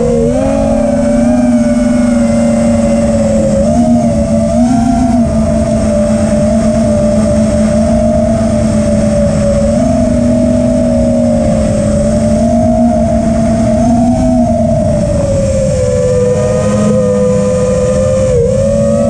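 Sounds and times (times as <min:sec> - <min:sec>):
high motor whine: 0:00.0 - 0:19.0
rough low rumble: 0:00.0 - 0:19.0.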